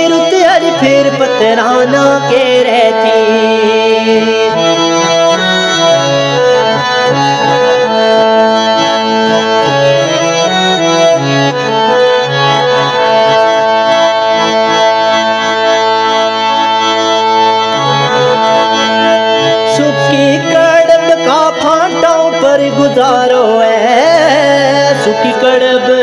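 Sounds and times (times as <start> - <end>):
free-reed keyboard melody: 0.0 - 26.0.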